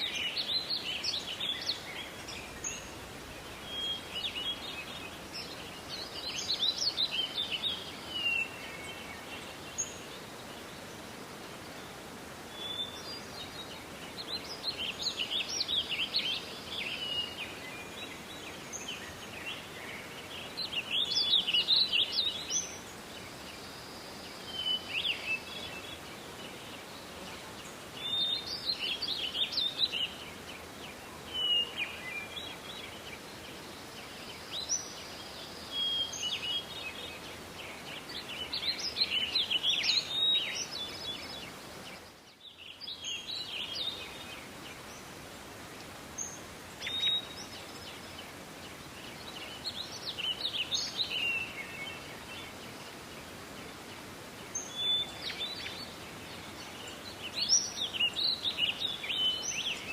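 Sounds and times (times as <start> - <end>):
background hiss: 0.0 - 59.9
songbirds chirping: 0.0 - 59.9.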